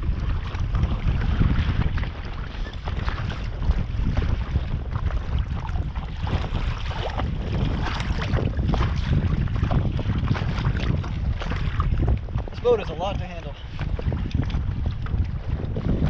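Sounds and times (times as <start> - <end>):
water splashing against hull: 0.0 - 16.0
wind buffeting microphone: 0.0 - 16.0.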